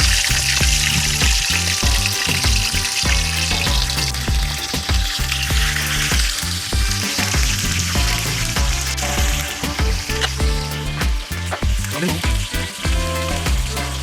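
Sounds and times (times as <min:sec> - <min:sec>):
background music with bass beat: 0:00.0 - 0:14.0
fish deep-frying in oil: 0:00.0 - 0:14.0.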